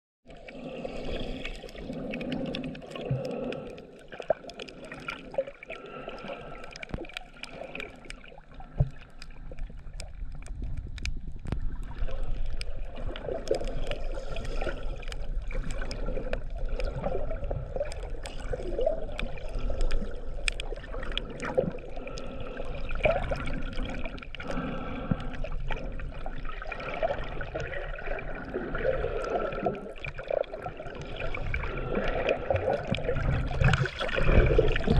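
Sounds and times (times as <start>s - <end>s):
low rumble of moving water: 0.2s - 34.9s
water sloshing and gurgling: 0.2s - 34.9s
underwater clicks and crackles: 0.3s - 34.9s.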